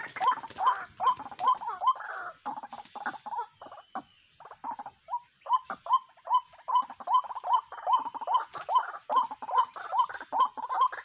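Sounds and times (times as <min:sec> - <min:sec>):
waterhens croaking calls: 0:00.0 - 0:11.0.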